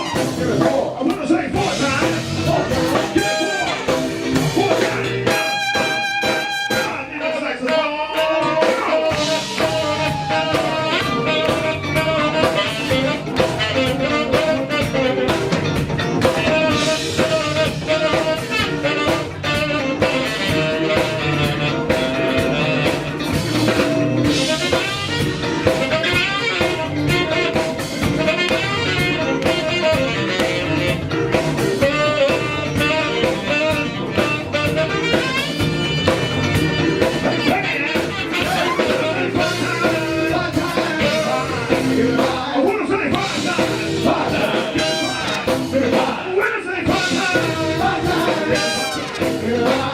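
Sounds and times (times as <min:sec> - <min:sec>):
horn line: 0:00.0 - 0:00.9, 0:01.5 - 0:49.9
drum kit beat: 0:00.0 - 0:49.9
soul band playing: 0:00.0 - 0:49.9.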